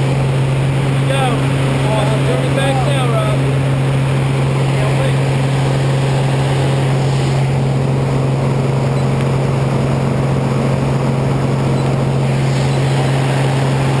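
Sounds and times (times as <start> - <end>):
airplane engine drone in cabin: 0.0 - 14.0.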